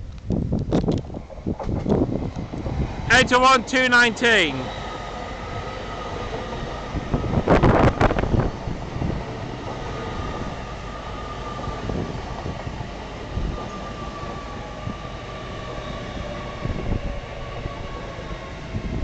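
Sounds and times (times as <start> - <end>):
train whine: 0.6 - 19.0
train rumbling past: 0.8 - 19.0.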